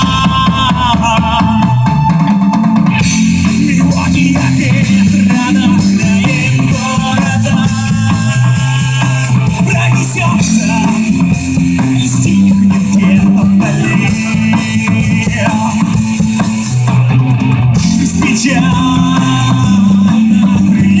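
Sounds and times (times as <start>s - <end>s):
bass guitar: 0.0s - 21.0s
drum kit: 0.0s - 21.0s
electric guitar melody: 0.0s - 21.0s.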